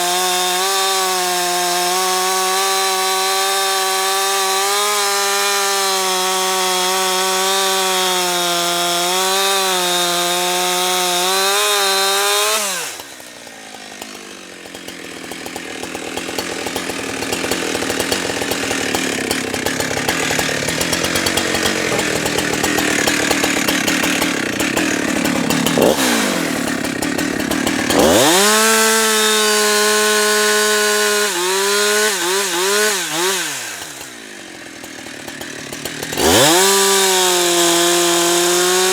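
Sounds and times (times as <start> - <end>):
chainsaw engine revving: 0.0 - 38.9
rough sawing noise: 0.0 - 38.9.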